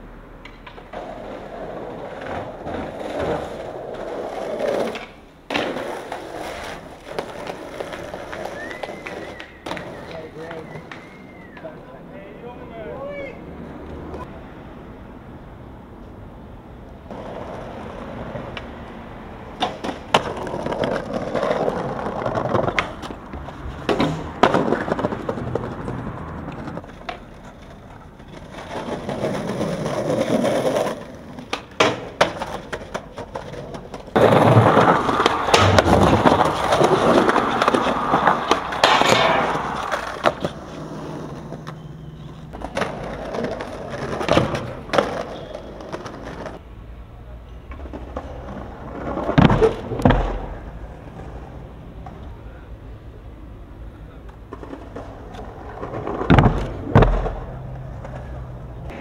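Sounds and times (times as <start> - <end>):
skateboard wheels rolling on pavement: 0.0 - 59.0
skateboard clacking on ground: 0.4 - 14.3, 16.9 - 18.9, 19.5 - 46.6, 47.3 - 52.4, 53.8 - 59.0.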